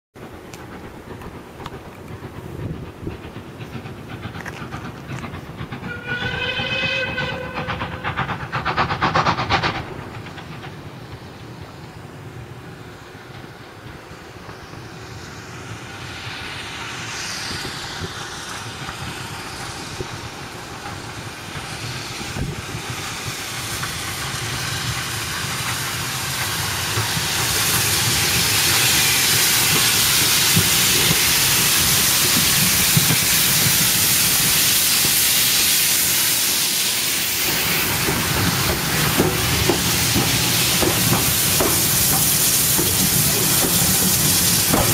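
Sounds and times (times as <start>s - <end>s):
loud hiss of steam: 0.2s - 44.9s
steam locomotive approaching: 0.2s - 44.9s
train wheels clicking over rail joints: 0.2s - 44.9s.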